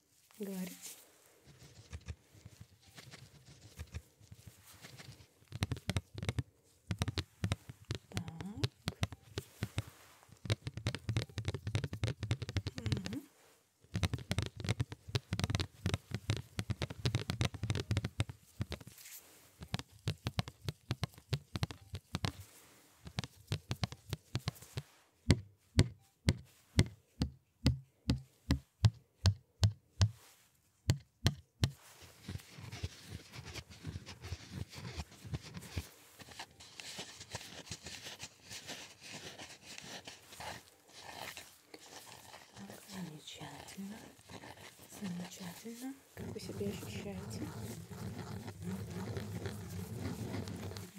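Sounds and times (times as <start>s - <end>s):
soft rubbing: 0.0s - 27.2s, 30.1s - 30.8s, 31.7s - 50.9s
gloved fingers tapping: 4.8s - 13.3s, 13.9s - 42.9s, 43.6s - 50.9s.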